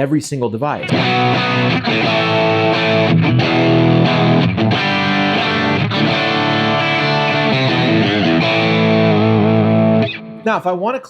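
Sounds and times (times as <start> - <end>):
distorted electric guitar with delay: 0.8 - 10.5.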